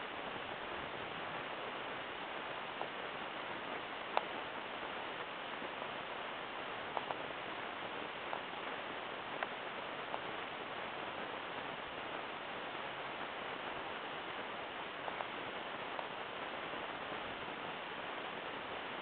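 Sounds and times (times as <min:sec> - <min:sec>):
steady hiss: 0:00.0 - 0:19.0
faint clicks and ticks: 0:01.9 - 0:19.0.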